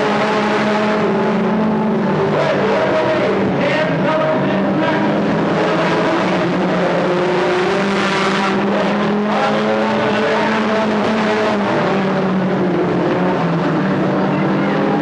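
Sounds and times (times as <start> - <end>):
stock car engines racing: 0.0 - 15.0.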